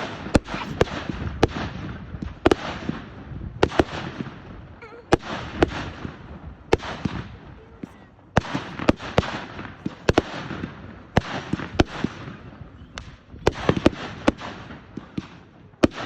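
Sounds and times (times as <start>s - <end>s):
fireworks crackling hiss: 0.0s - 4.5s, 5.1s - 16.0s
fireworks bangs: 0.0s - 16.0s.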